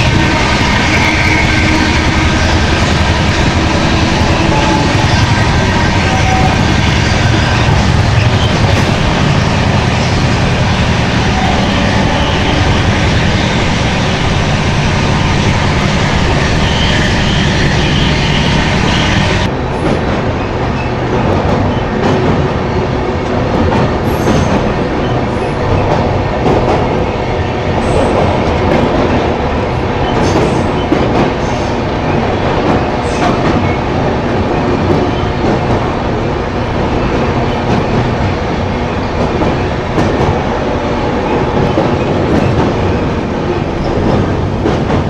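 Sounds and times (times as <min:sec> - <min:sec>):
train rumble with wheel clatter: 0:00.0 - 0:45.0.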